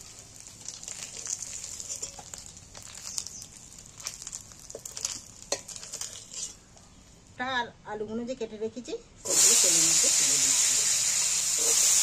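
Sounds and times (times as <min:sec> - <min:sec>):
hot oil sizzling and crackling: 0:00.0 - 0:06.9, 0:09.2 - 0:12.0.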